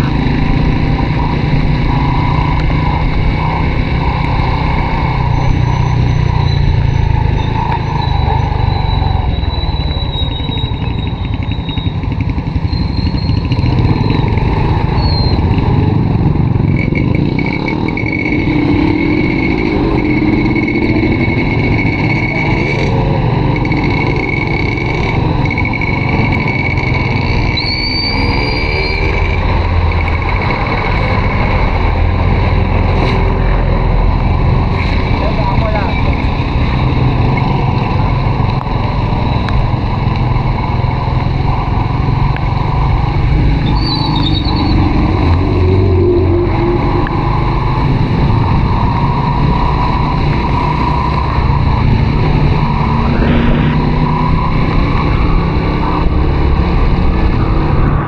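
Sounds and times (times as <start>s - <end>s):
road and wind noise: 0.0s - 58.0s
motorcycle engine running: 8.4s - 58.0s.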